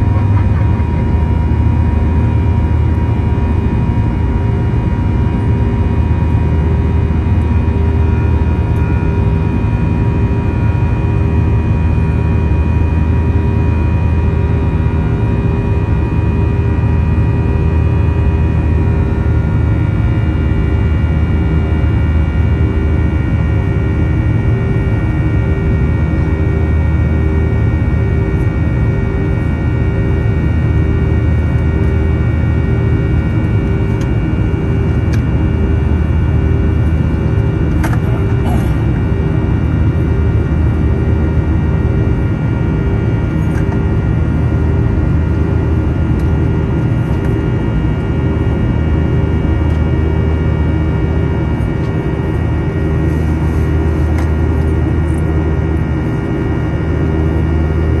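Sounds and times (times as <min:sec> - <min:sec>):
buzzing fan tones: 0:00.0 - 0:58.0
jet engine rumble in cabin: 0:00.0 - 0:58.0.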